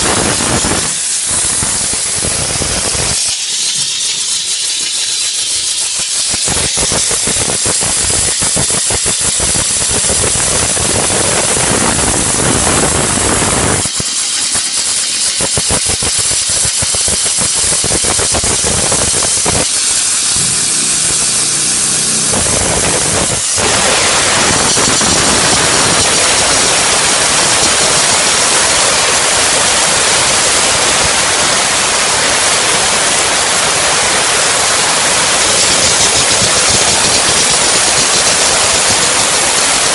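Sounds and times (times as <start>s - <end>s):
steam hissing from steam gun: 0.0s - 39.9s.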